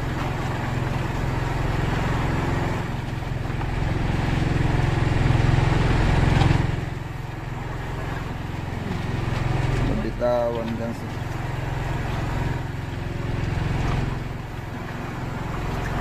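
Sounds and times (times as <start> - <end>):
boat engine throbbing: 0.0 - 16.0.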